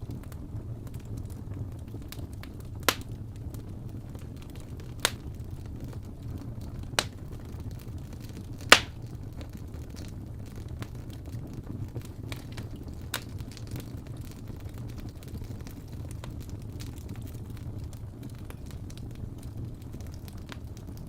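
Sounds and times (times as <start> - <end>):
fireplace fire rumbling: 0.0 - 21.0
logs crackling and popping: 0.0 - 21.0.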